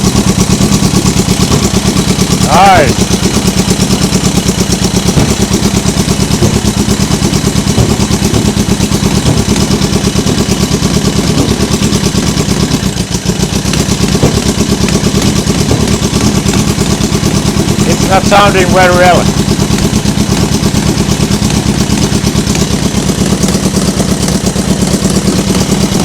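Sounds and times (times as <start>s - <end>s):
motorcycle engine running unevenly: 0.0s - 26.0s.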